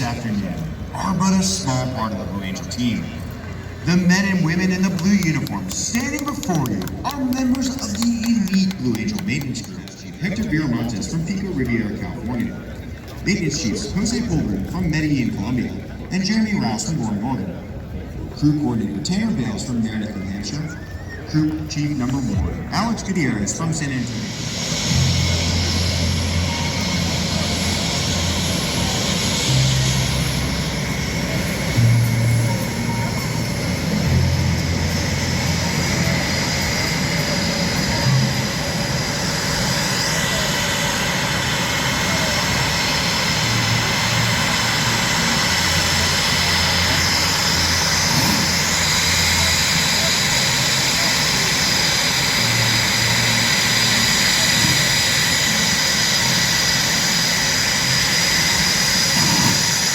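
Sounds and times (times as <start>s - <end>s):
jet engines idling: 0.0s - 59.9s.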